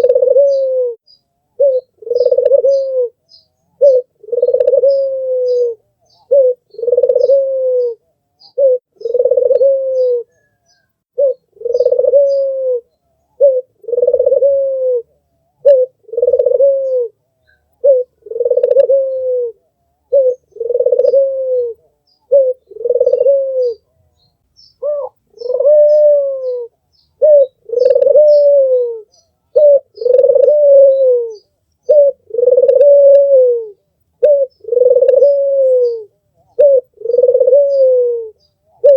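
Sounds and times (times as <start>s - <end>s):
small birds chirping: 0.0s - 14.5s, 15.3s - 38.9s
dove cooing: 0.0s - 24.0s, 24.8s - 38.9s.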